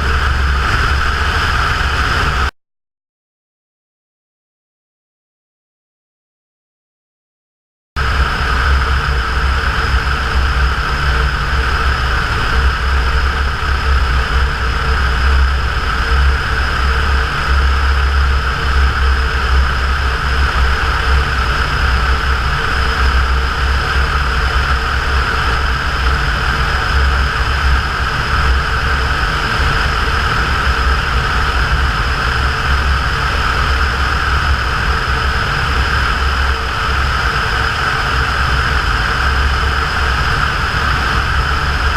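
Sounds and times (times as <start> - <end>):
propeller plane engine drone: 0.0 - 2.5, 8.0 - 41.9.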